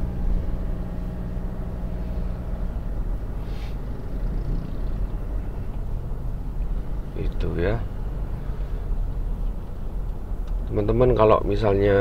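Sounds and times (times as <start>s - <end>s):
engine and tyre rumble: 0.0s - 12.0s
engine hum: 0.0s - 12.0s.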